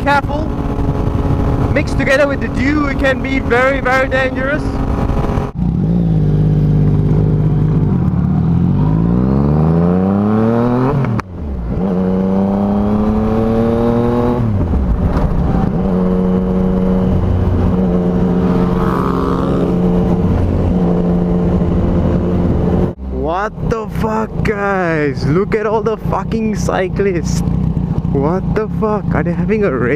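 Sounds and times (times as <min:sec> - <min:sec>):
motorcycle engine revving: 0:00.0 - 0:23.3, 0:24.1 - 0:29.9.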